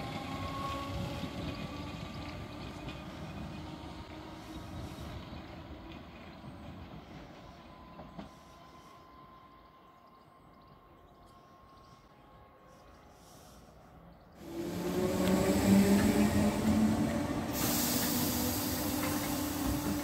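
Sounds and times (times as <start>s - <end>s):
electric train pulling away: 0.0s - 20.0s.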